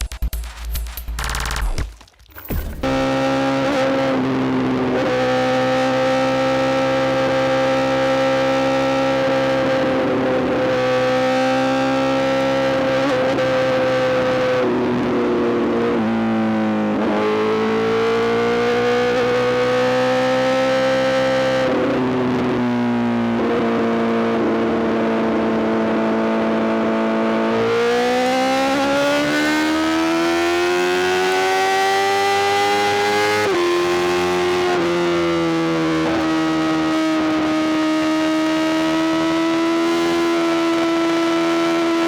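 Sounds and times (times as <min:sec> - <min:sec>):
motorcycle engine revving: 0:02.4 - 0:42.0.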